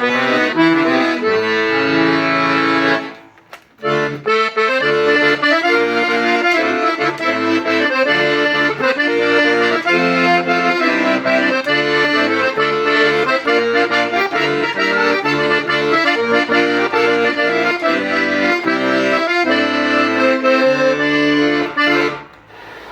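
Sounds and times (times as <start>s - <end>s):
piano accordion playing a tune: 0.0s - 22.8s.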